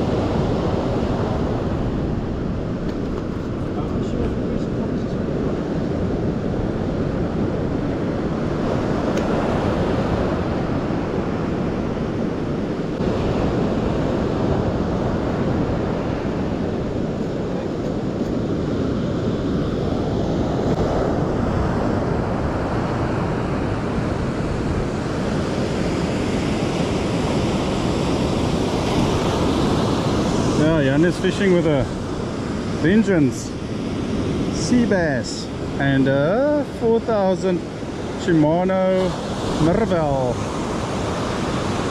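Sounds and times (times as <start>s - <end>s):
surf breaking on beach: 0.0s - 41.9s
wind on microphone: 0.0s - 41.9s.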